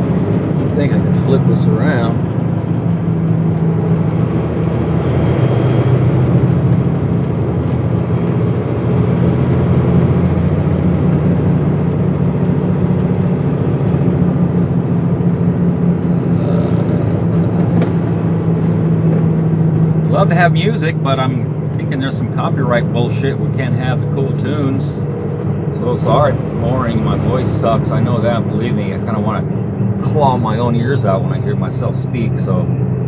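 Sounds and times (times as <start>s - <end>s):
truck engine and road noise: 0.0s - 33.0s.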